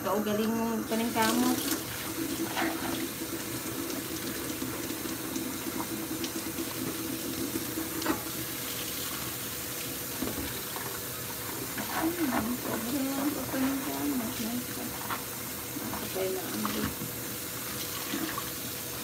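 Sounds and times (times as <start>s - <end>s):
tap water running into sink: 0.9s - 19.0s.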